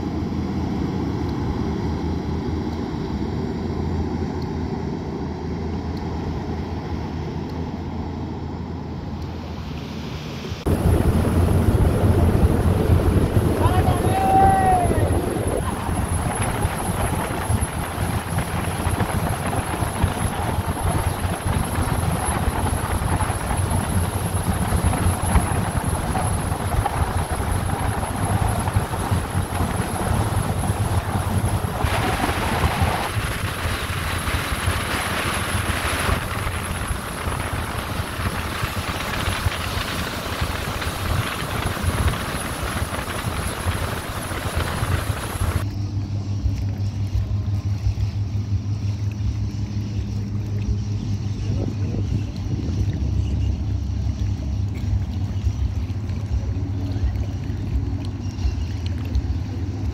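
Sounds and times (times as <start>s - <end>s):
boat engine drone: 0.0s - 59.9s
wind: 0.0s - 59.9s
wake water rushing: 10.4s - 45.7s, 46.3s - 59.9s.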